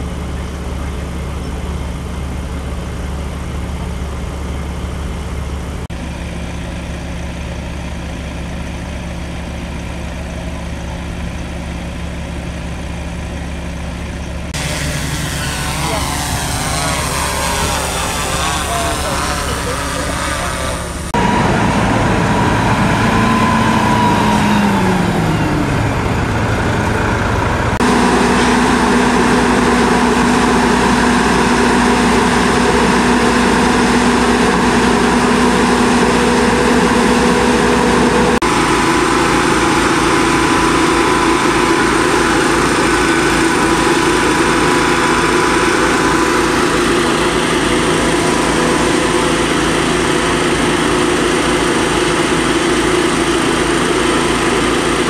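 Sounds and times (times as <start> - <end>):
engine running loudly: 0.0 - 55.0.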